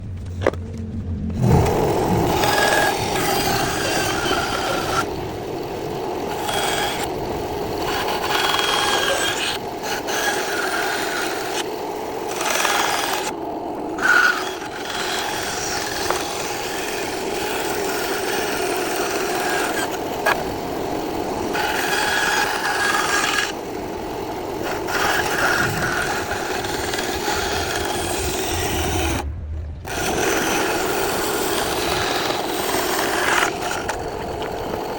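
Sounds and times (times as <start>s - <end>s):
bandsaw cutting wood: 1.4s - 29.3s, 29.9s - 34.9s.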